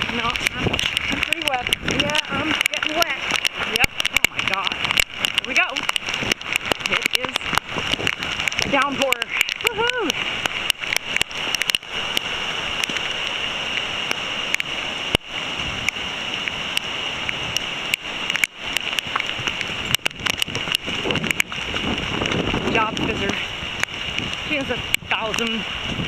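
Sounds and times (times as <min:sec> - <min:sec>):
heavy rain hissing: 0:00.0 - 0:26.0
raindrops ticking on microphone: 0:00.0 - 0:26.0.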